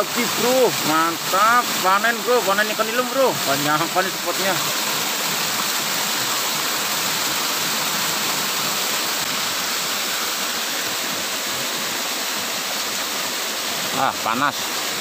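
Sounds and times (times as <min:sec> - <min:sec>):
water pouring into a pool: 0:00.0 - 0:15.0.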